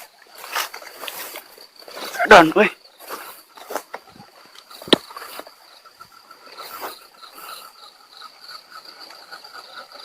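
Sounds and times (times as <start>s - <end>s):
insect high trill: 0.0s - 10.0s
insect lower pulsing chirp: 0.0s - 10.0s.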